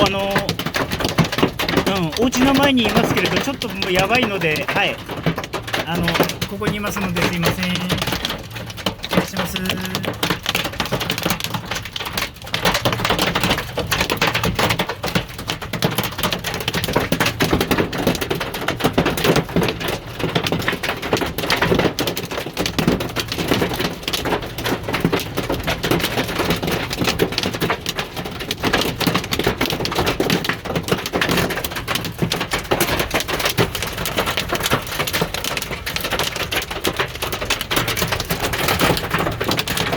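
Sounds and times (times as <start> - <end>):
hailstones clattering: 0.0 - 39.9
heavy rain: 0.0 - 39.9.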